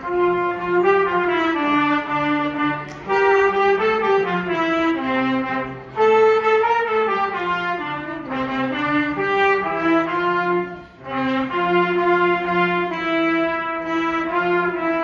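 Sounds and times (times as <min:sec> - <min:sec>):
trumpets saxophone and cello melody: 0:00.0 - 0:15.0.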